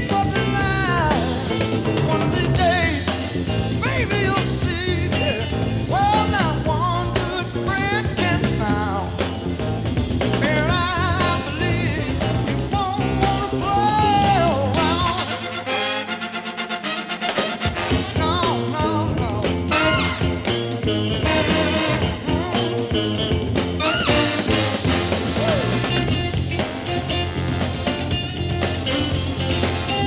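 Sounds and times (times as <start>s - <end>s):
blues-rock band playing: 0.0s - 30.0s
sliding lead guitar line: 0.0s - 30.0s.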